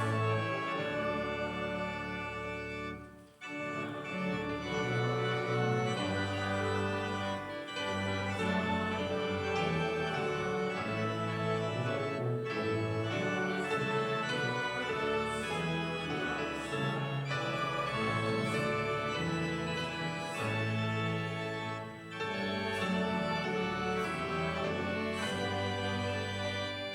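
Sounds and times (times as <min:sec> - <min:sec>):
church organ playing a hymn: 0:00.0 - 0:26.9.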